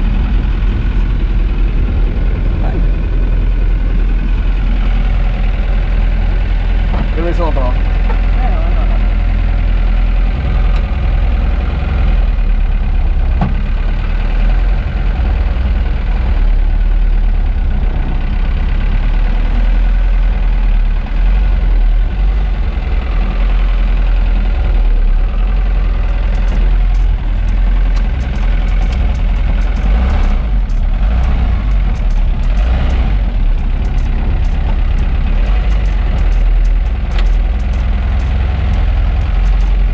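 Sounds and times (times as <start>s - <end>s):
car engine running at low revs: 0.0s - 39.9s.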